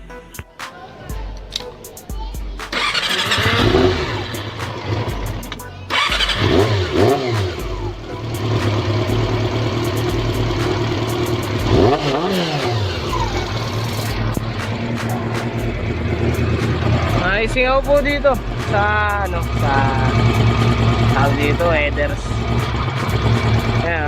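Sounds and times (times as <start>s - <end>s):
motorcycle engine idling and revving: 2.7s - 24.0s.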